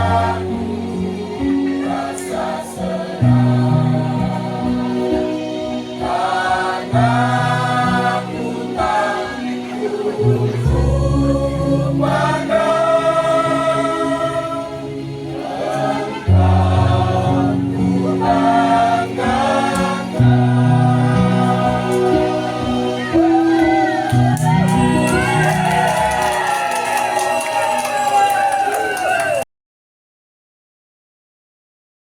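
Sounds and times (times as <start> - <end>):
choir singing: 0.0 - 26.4.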